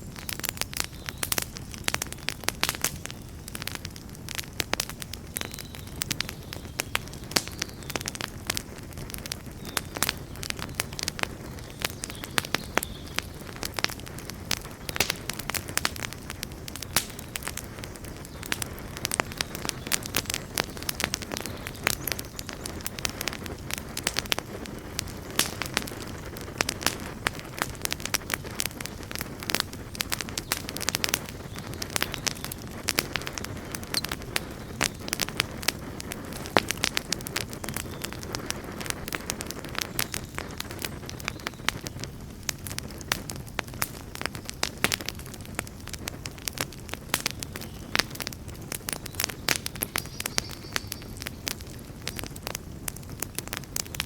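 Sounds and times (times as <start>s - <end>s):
campfire crackling and popping: 0.0s - 54.0s
low rumble of flame: 0.0s - 54.0s.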